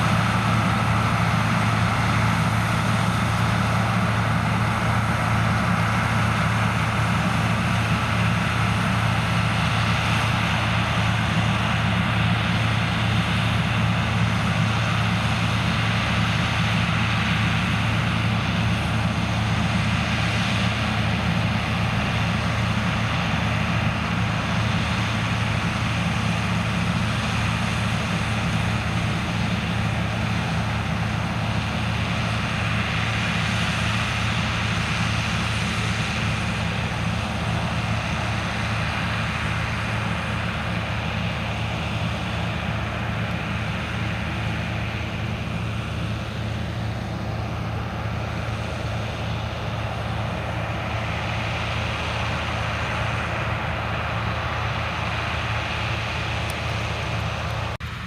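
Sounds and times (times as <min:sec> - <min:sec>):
heavy farm machinery running: 0:00.0 - 0:58.0.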